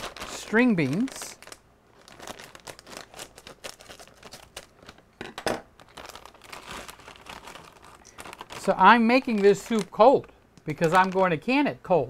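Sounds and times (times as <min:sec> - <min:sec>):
plastic bag crinkling: 0:00.0 - 0:05.1, 0:05.7 - 0:11.4.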